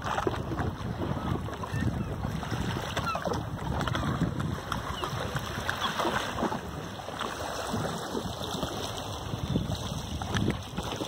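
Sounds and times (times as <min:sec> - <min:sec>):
small waves lapping on shore: 0:00.0 - 0:11.0
wind buffeting microphone: 0:00.0 - 0:11.0.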